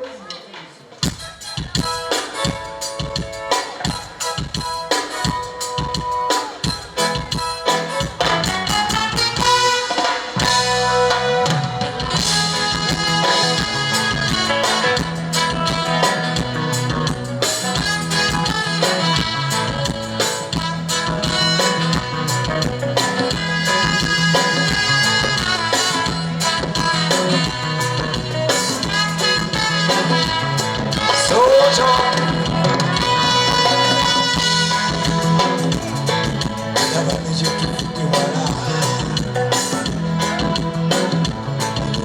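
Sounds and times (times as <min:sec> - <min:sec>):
drum kit: 0:00.0 - 0:42.0
live band music: 0:00.0 - 0:42.0
steady bass line: 0:07.0 - 0:42.0.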